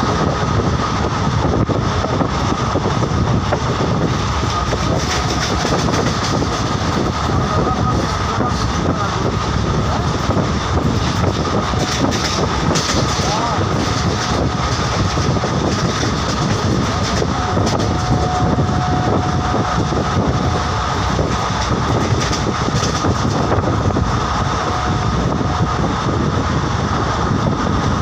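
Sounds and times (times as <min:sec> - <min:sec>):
high whine: 0:00.0 - 0:28.0
train rumbling on track: 0:00.0 - 0:28.0.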